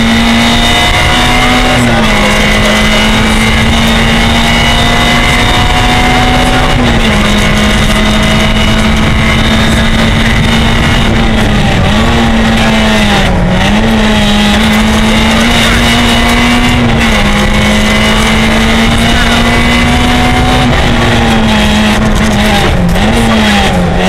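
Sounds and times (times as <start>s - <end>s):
car engine at high revs: 0.0s - 24.0s.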